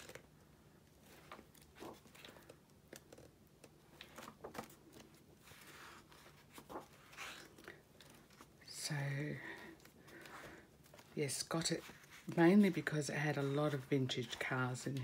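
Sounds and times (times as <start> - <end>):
book pages turning: 0.0 - 8.8, 9.6 - 15.0.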